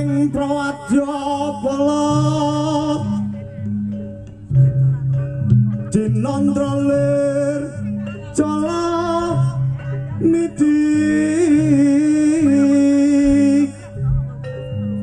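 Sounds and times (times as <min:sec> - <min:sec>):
repeating low instrumental pattern: 0:00.0 - 0:15.0.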